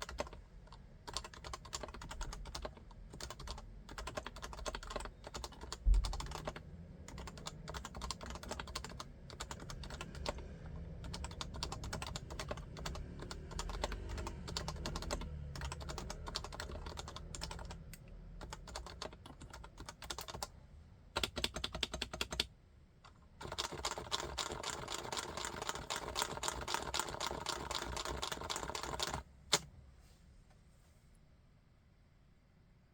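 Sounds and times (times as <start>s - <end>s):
keyboard typing: 0.0s - 20.5s, 21.2s - 22.5s, 23.4s - 29.7s.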